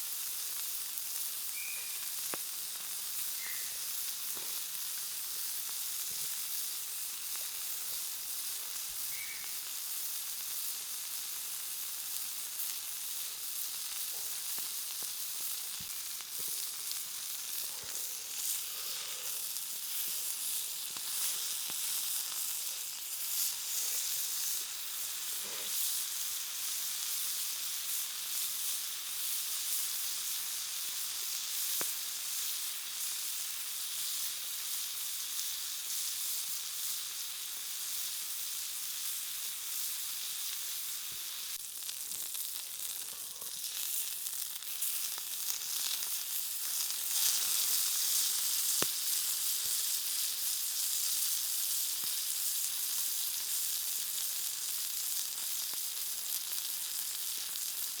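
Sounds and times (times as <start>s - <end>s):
meat sizzling on a grill: 0.0s - 58.0s.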